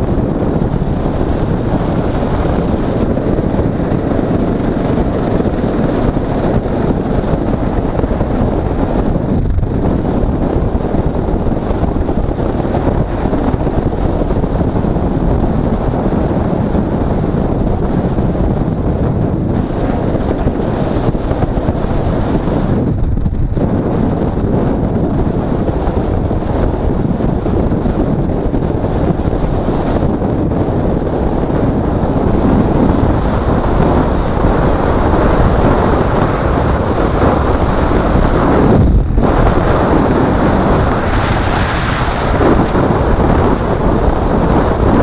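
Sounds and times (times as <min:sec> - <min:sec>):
road noise: 0:00.0 - 0:45.0
wind rushing over microphone: 0:00.0 - 0:45.0.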